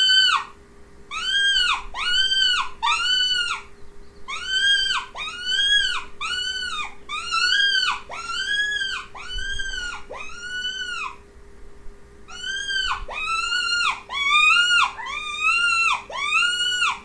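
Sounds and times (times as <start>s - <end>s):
mouse squeaking: 1.1s - 11.2s, 12.3s - 17.0s.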